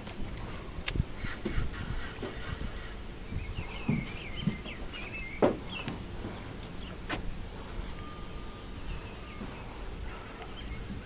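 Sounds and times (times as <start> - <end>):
birds chirping: 0.0 - 11.0
low steady rumble: 0.0 - 11.0.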